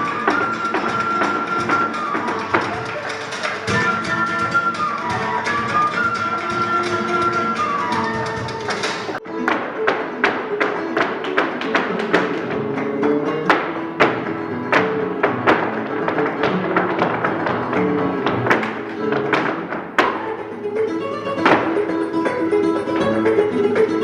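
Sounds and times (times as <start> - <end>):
flamenco guitar music: 0.0 - 24.0.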